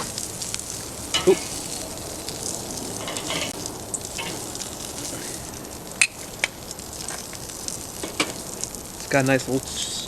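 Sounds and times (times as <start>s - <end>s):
bacon sizzling on a grill: 0.0s - 10.0s
fat crackling and popping: 0.0s - 10.0s.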